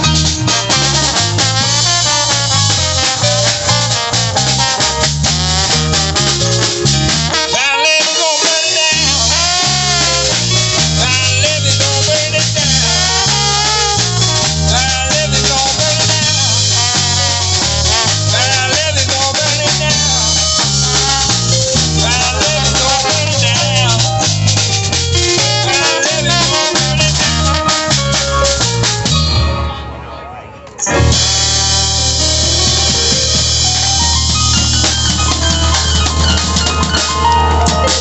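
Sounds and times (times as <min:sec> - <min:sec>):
drum kit beat: 0:00.0 - 0:30.0, 0:30.8 - 0:38.0
trombone: 0:00.0 - 0:30.1, 0:30.8 - 0:38.0
live band playing: 0:00.0 - 0:38.0.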